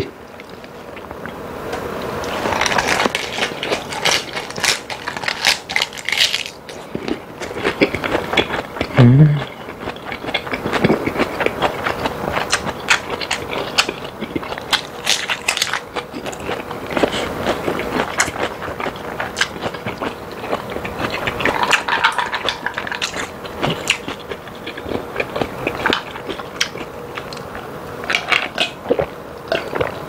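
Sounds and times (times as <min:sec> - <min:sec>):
low hummed mm: 0:00.0 - 0:30.0
crisp crunching chewing: 0:02.2 - 0:30.0.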